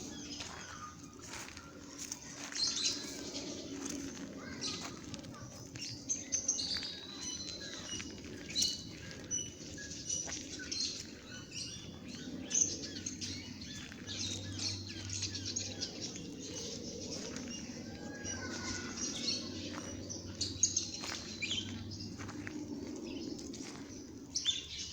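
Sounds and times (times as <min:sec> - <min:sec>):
birds chirping and twittering: 0:00.0 - 0:24.9
low background hum: 0:00.0 - 0:24.9.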